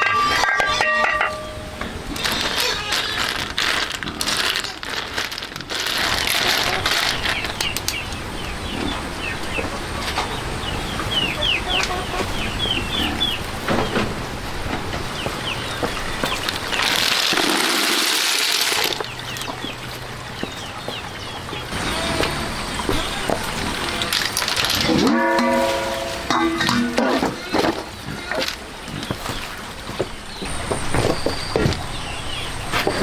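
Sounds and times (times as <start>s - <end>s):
birds chirping: 0.0s - 17.9s, 18.6s - 33.0s.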